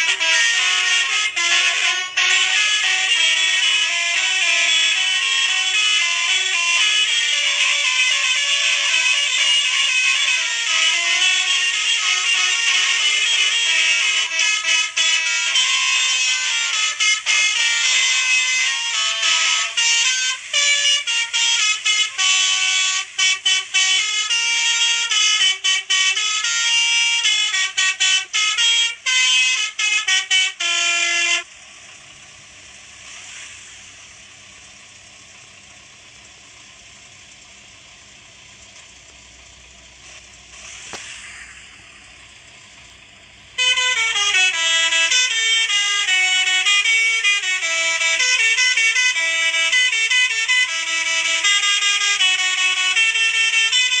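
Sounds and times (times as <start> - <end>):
musical vehicle horn melody: 0.0 - 38.6, 39.3 - 54.0.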